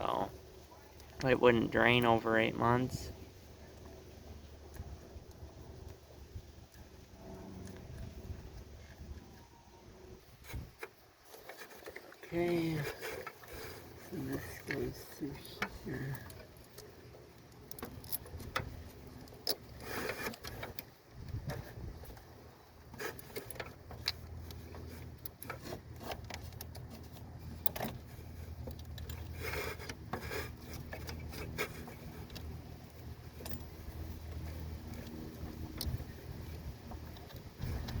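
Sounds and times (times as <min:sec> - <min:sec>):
small metal clicks and scrapes: 0:00.1 - 0:09.4, 0:10.2 - 0:38.0.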